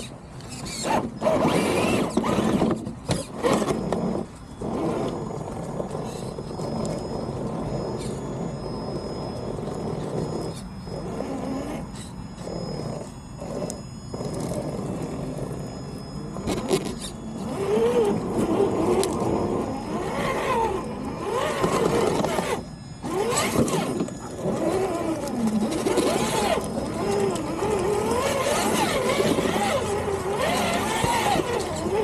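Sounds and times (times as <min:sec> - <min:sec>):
electric motor whining: 0:00.0 - 0:32.0.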